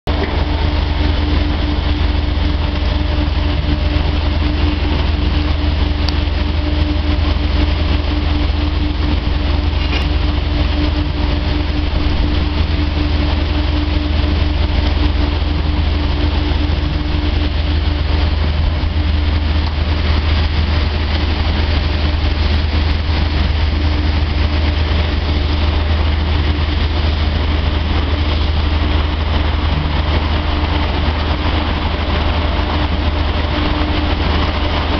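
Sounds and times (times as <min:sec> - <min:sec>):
heavy machinery deep hum: 0:00.0 - 0:34.9
steady machine tone: 0:00.1 - 0:34.9.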